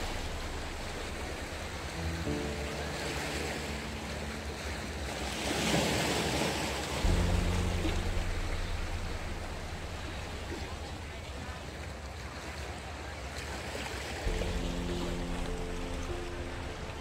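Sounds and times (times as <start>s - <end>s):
low steady drone: 0.0s - 12.4s, 14.2s - 17.0s
waves breaking over boulders: 0.0s - 17.0s.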